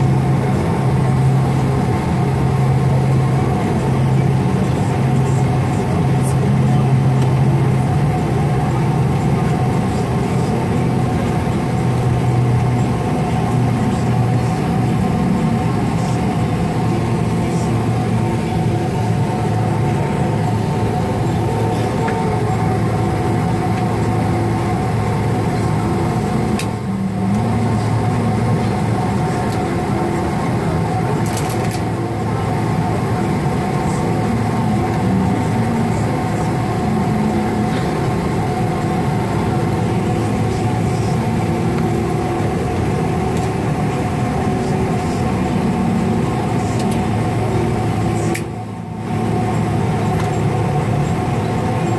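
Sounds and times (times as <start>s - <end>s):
jet engines humming and whining: 0.0s - 51.9s.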